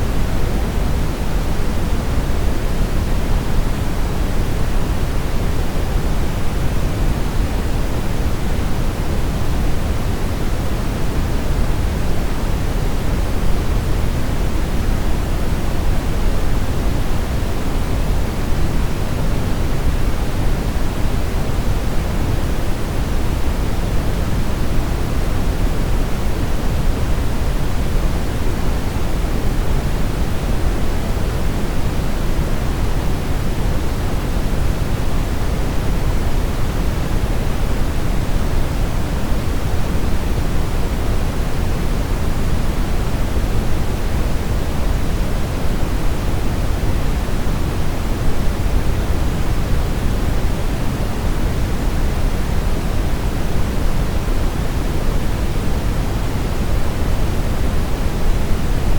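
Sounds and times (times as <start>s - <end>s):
brown noise hiss-rumble: 0.0s - 58.9s.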